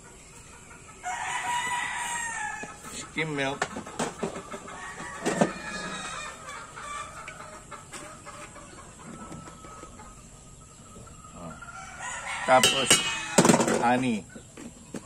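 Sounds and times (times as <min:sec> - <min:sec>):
roosters crowing and clucking: 0:00.0 - 0:15.0.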